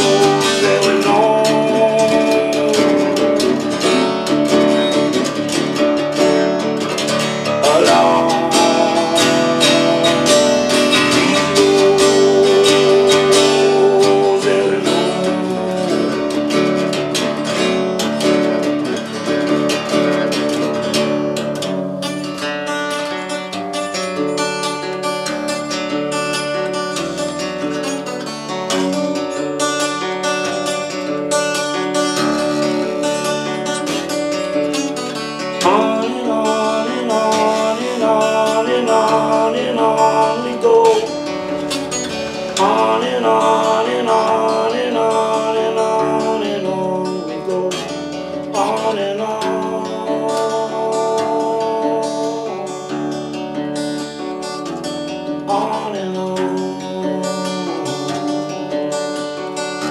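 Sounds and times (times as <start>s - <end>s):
acoustic guitar strummed: 0.0s - 59.9s.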